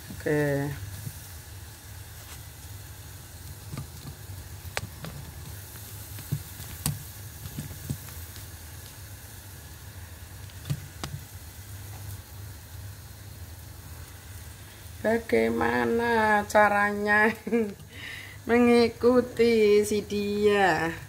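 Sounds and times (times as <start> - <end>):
pot boiling rumble and hiss: 0.0 - 21.0.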